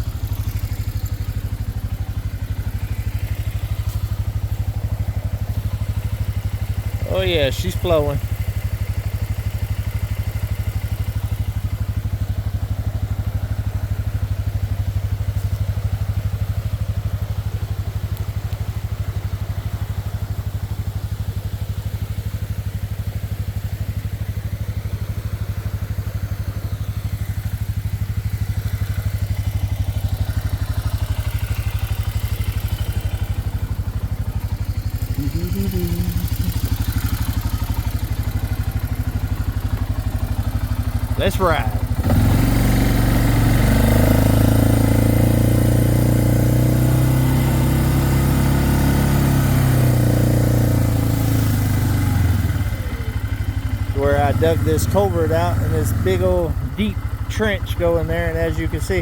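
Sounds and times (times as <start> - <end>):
atv engine idling: 0.0 - 59.0.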